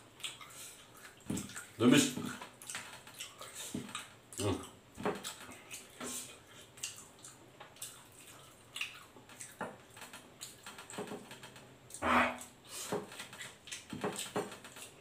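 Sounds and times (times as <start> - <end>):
wet chewing and lip-smacking: 0.0 - 11.0, 13.0 - 15.0.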